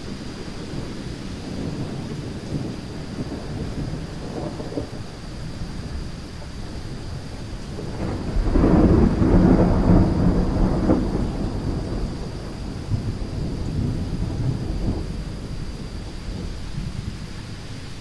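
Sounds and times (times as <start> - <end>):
thunder rolling: 0.0 - 17.6
heavy rain: 0.0 - 18.0.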